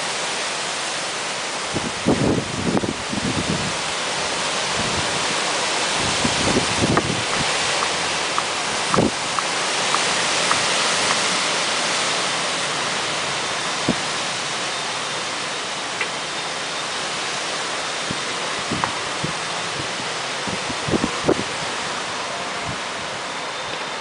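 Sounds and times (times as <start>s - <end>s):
wind rushing through trees: 0.0s - 24.0s.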